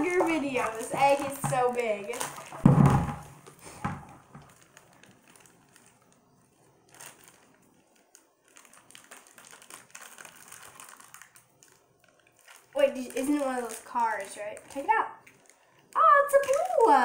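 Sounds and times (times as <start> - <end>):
wrapper crinkling and tearing: 0.0 - 17.0.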